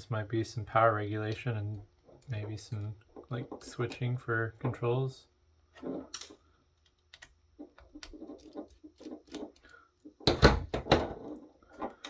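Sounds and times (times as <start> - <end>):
plastic parts clicking and knocking: 1.2 - 4.8, 5.7 - 12.0.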